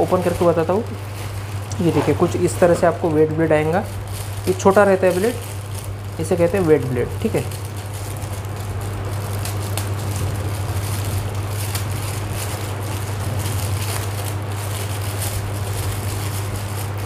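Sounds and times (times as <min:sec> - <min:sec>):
plastic packet crinkling: 0:00.0 - 0:17.0
steady low hum: 0:00.0 - 0:17.0.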